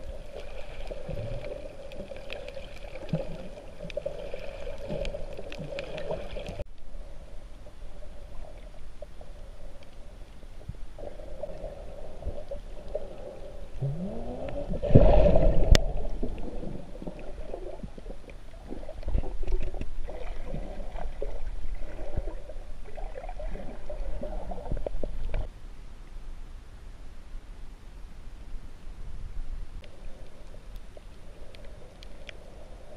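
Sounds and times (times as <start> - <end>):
water moving underwater: 0.0 - 25.5, 29.2 - 32.9.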